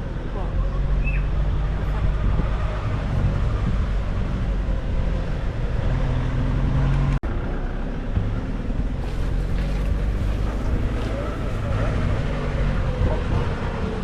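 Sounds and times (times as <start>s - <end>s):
engine and road drone: 0.0s - 14.0s.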